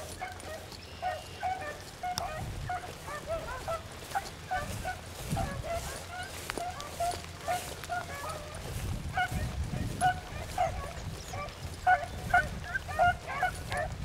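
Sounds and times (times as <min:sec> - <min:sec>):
hounds baying: 0:00.0 - 0:14.0.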